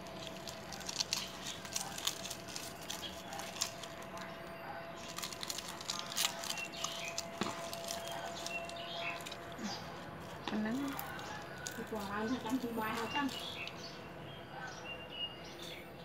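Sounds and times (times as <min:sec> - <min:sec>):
wet squishing: 0:00.0 - 0:04.4, 0:05.0 - 0:13.9
stalks crackling and rustling: 0:00.0 - 0:14.1.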